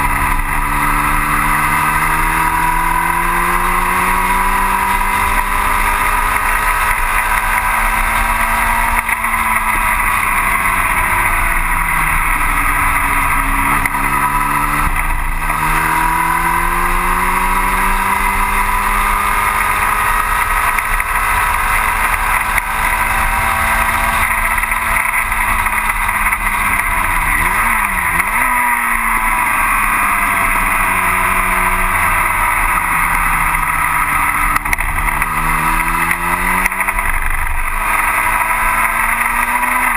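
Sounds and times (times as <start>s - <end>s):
engine throttle blips: 0.0s - 39.9s
racing car engine: 0.0s - 39.9s.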